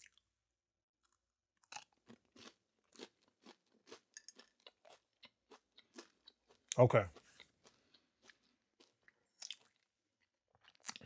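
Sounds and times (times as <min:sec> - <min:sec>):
faint chewing: 0:01.0 - 0:11.0.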